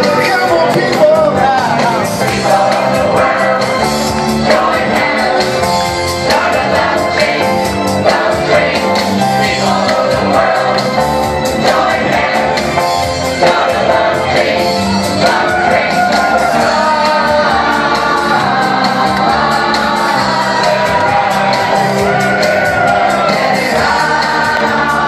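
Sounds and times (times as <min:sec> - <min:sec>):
gospel choir singing: 0:00.0 - 0:25.0
instrumental backing with bass: 0:00.0 - 0:25.0.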